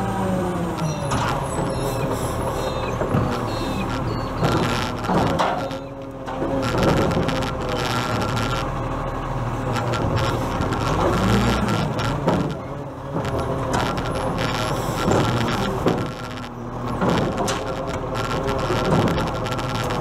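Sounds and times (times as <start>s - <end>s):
garbage truck diesel engine: 0.0s - 20.0s
hydraulics working: 0.0s - 20.0s.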